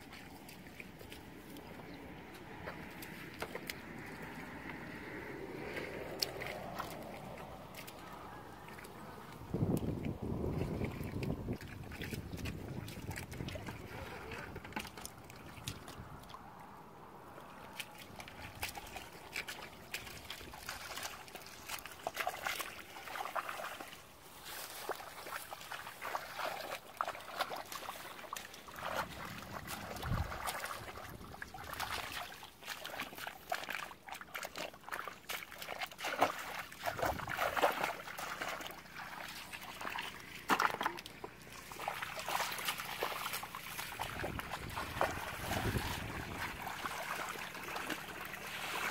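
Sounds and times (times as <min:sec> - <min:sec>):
hands splashing in muddy puddle: 0:00.0 - 0:16.5, 0:17.4 - 0:48.9.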